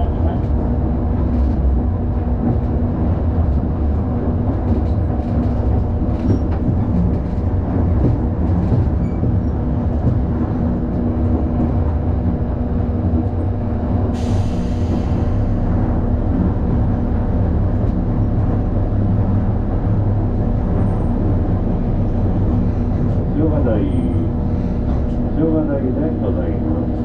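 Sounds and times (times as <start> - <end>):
constant hum: 0.0 - 27.0
streetcar wheels rumbling on rail: 0.0 - 27.0.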